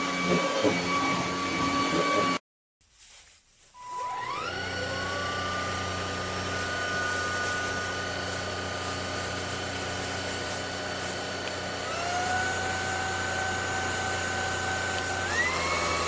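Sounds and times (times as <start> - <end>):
vacuum cleaner motor whining: 0.0 - 2.4, 3.8 - 16.0.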